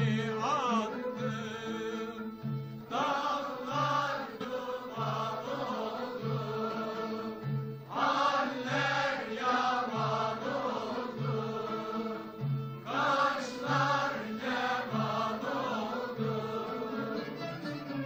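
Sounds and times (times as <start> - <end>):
mixed choir singing folk song: 0.0 - 18.0
violins: 0.0 - 18.0.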